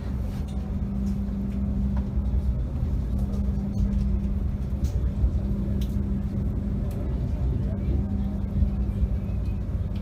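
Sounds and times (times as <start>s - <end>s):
constant hum: 0.0s - 10.0s
train carriage rumble: 0.0s - 10.0s.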